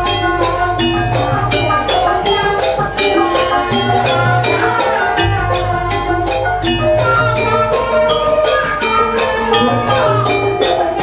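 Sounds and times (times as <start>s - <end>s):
metal percussion strikes: 0.0s - 11.0s
ringing pitched tones: 0.0s - 11.0s.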